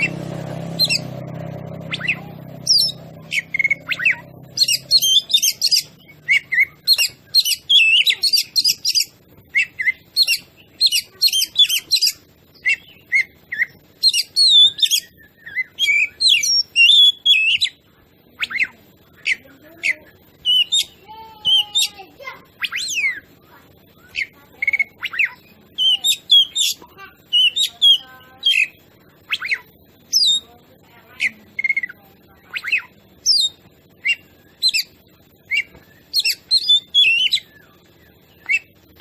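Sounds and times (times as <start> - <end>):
bird singing whistles and trills: 0.0 - 23.3, 23.9 - 30.5, 31.2 - 39.0.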